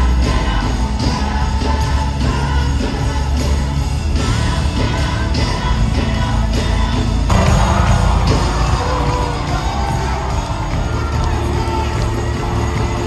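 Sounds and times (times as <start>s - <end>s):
gospel singing over a band: 0.0s - 13.0s.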